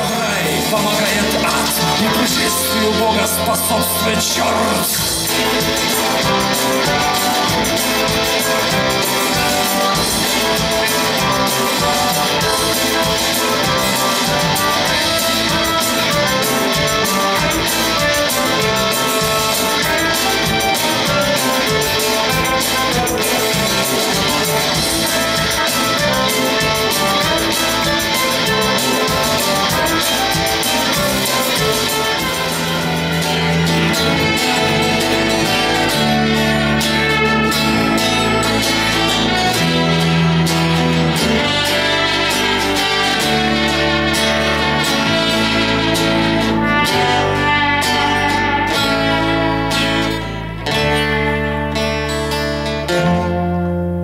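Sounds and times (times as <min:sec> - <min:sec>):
drum kit steady beat: 0:00.0 - 0:48.2
guitars: 0:00.0 - 0:54.0.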